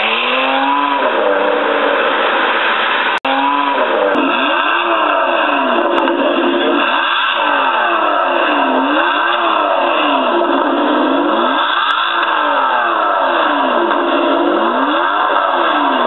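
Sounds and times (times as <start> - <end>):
sports car engine revving: 0.0 - 16.0.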